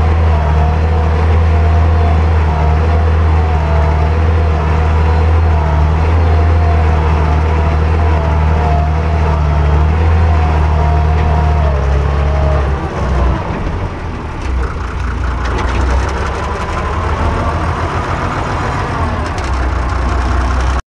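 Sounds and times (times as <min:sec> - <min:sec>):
tractor engine under load: 0:00.0 - 0:20.8.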